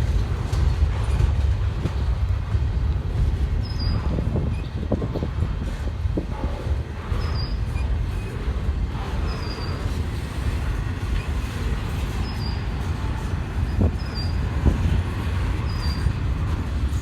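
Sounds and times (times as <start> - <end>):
train cars knocking: 0.0 - 17.0
train wheels rumbling on rail: 0.0 - 17.0.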